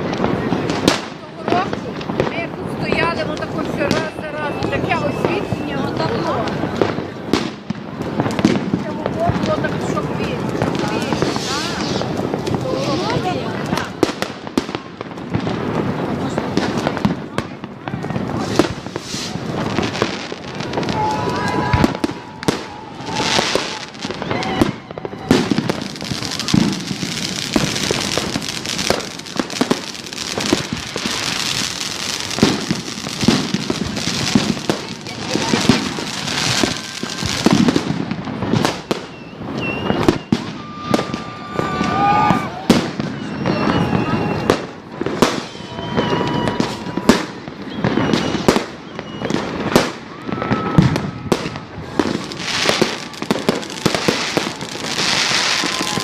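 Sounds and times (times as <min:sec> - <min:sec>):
firecrackers crackling: 0:00.0 - 0:56.0
fireworks booming: 0:00.0 - 0:56.0.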